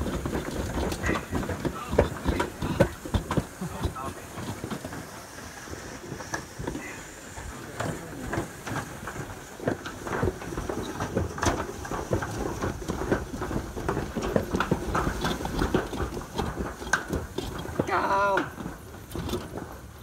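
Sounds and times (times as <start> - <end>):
sleds rattling down steel chute: 0.0 - 20.0.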